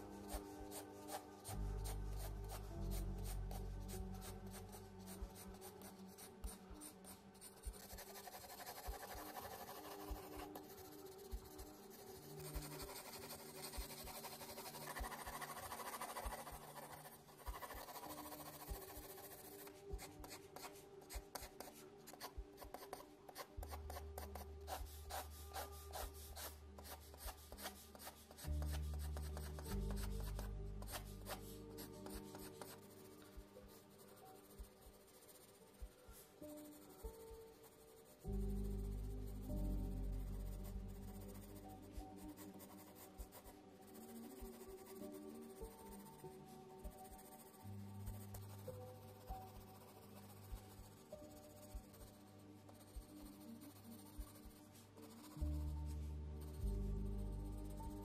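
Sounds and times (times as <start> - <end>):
pencil shading on paper: 0.0 - 58.0.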